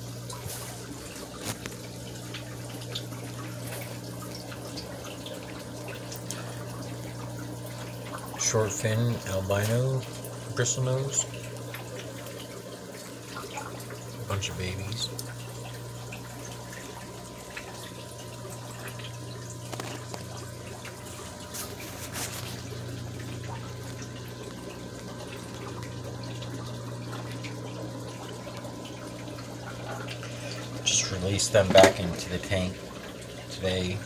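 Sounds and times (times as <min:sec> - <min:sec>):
steady low hum: 0:00.0 - 0:34.0
water trickling and splashing: 0:00.0 - 0:34.0.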